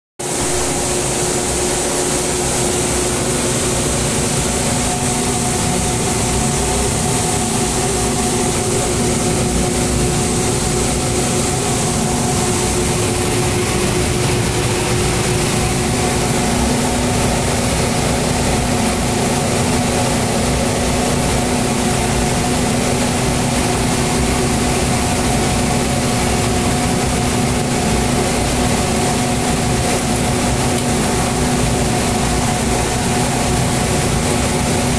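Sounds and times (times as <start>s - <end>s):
steady mechanical hum: 0.2s - 34.9s.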